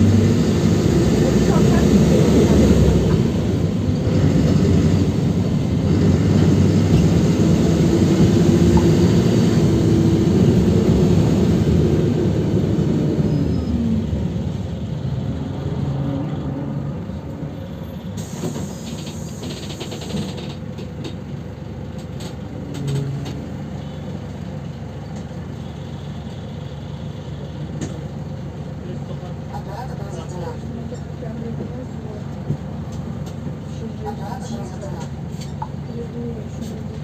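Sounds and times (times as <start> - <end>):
bus engine: 0.0 - 37.0.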